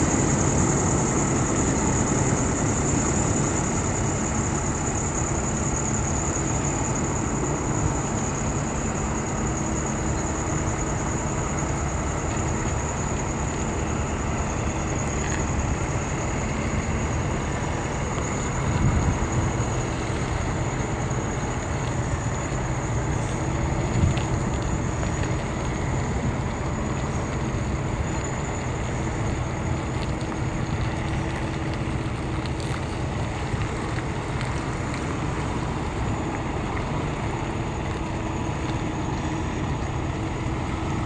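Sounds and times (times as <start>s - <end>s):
truck diesel engine rumbling: 0.0s - 41.0s.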